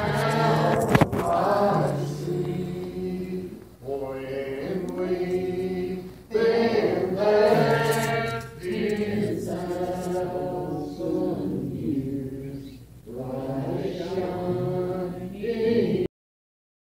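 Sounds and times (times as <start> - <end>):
congregation singing a hymn: 0.0 - 16.1.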